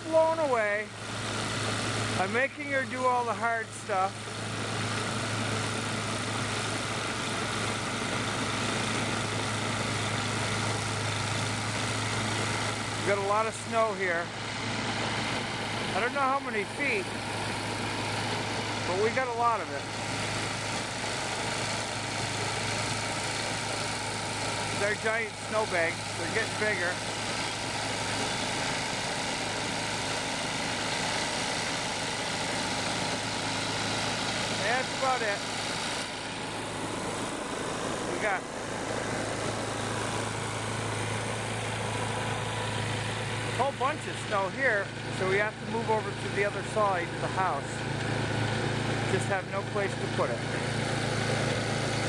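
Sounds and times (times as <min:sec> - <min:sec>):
snowblower engine running: 0:00.0 - 0:52.0.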